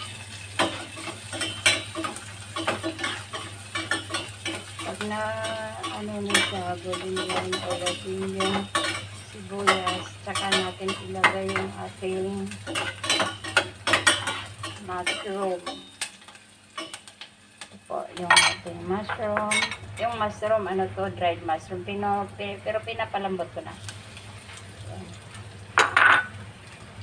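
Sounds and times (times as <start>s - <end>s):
light sizzling: 0.0s - 27.0s.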